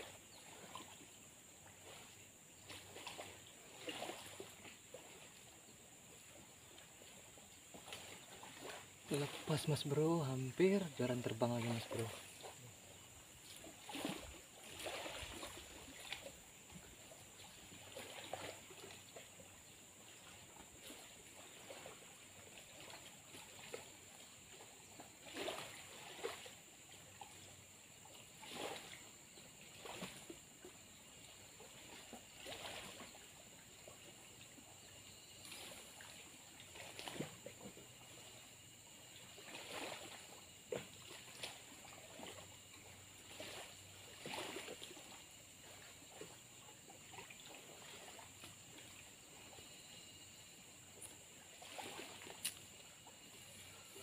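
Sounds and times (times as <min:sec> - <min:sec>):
small waves lapping at bank: 0:00.0 - 0:54.0.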